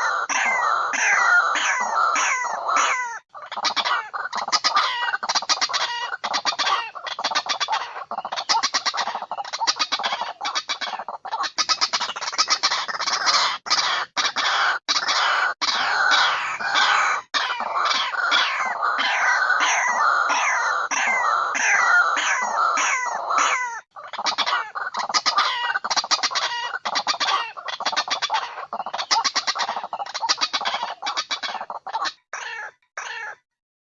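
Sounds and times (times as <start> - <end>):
birds clucking and cackling: 0.0 - 33.4.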